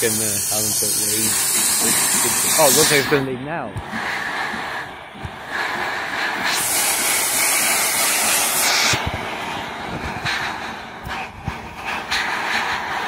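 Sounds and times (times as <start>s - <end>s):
loud sharp steam release hiss: 0.0s - 13.0s
steam locomotive hissing: 0.0s - 13.0s.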